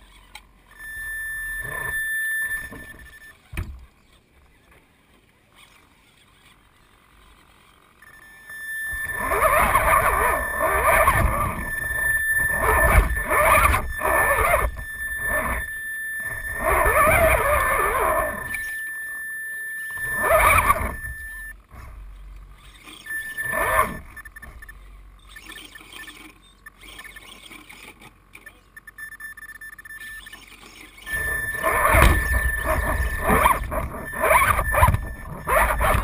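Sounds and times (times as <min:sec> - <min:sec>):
steady high whine: 0:00.0 - 0:04.8, 0:06.2 - 0:27.4, 0:28.4 - 0:36.0
motor and gears whining in bursts: 0:00.0 - 0:36.0.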